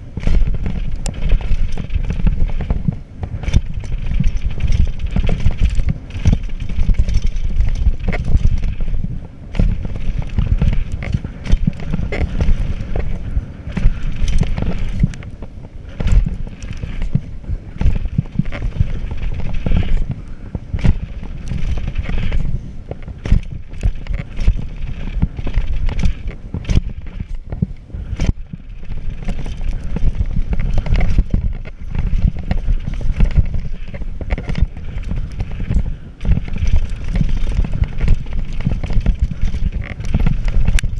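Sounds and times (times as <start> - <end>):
bike knocking and clattering: 0.0 - 40.9
tyres on packed dirt: 0.0 - 40.9
wind on microphone: 0.0 - 40.9.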